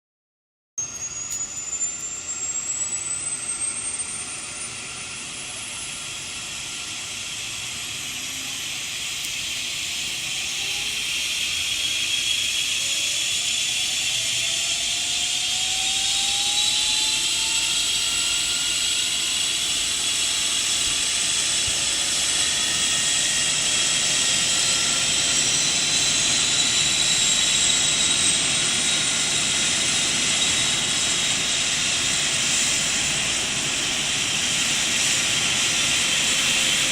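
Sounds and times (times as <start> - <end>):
helicopter engine whining: 0.8 - 36.9.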